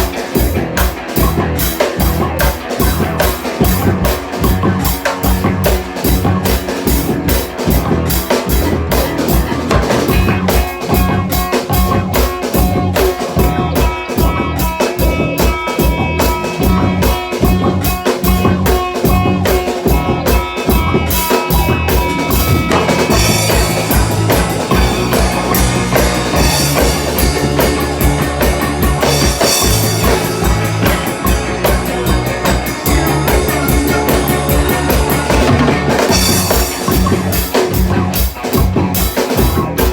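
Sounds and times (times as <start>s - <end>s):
drum kit beat: 0.0s - 39.9s
electric guitar: 0.0s - 39.9s
rock band playing: 0.0s - 39.9s.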